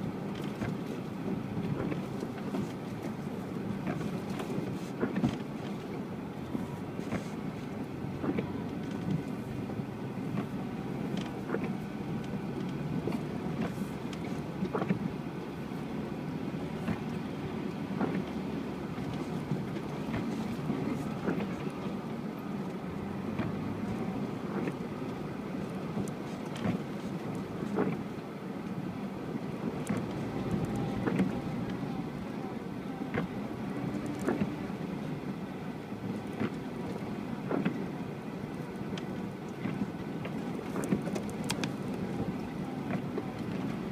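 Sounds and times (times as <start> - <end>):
suv engine running: 0.0 - 43.9.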